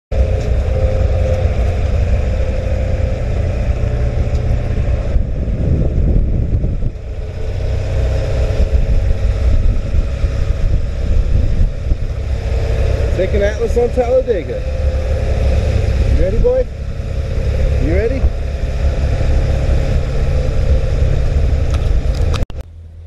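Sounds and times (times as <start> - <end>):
vehicle engine droning: 0.1 - 23.0.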